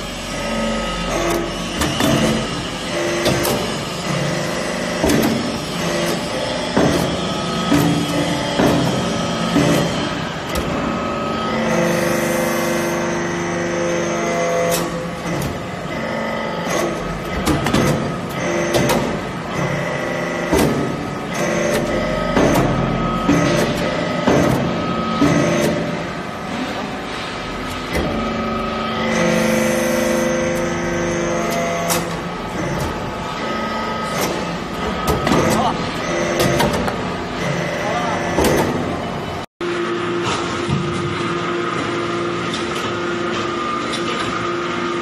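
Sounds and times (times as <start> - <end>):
hydraulic press pump humming: 0.0 - 45.0.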